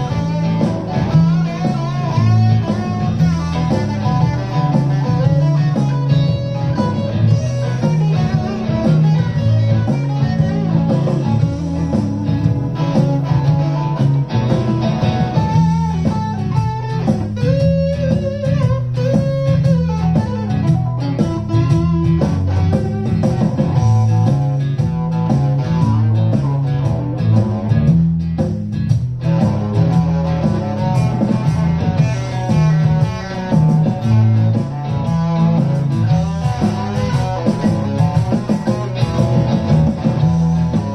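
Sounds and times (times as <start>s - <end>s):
electric guitar improvising: 0.0s - 40.9s
repeating low bass notes: 0.0s - 40.9s.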